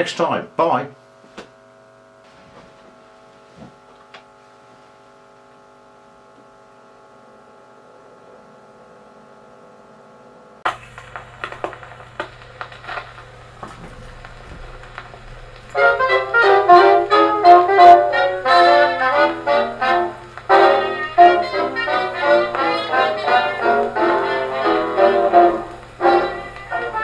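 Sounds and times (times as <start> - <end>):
mains hum: 0.0 - 27.0
record surface crackle: 1.1 - 6.9, 10.5 - 27.0.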